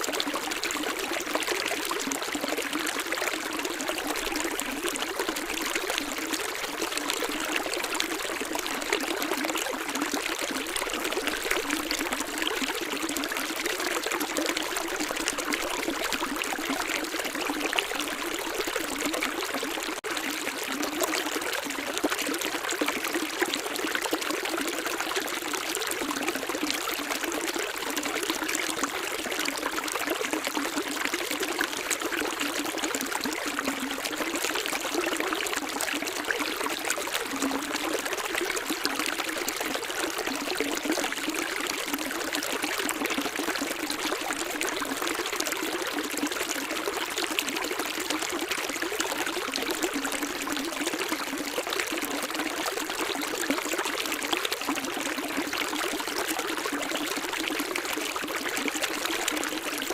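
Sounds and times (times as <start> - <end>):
small stream trickling: 0.0 - 59.9.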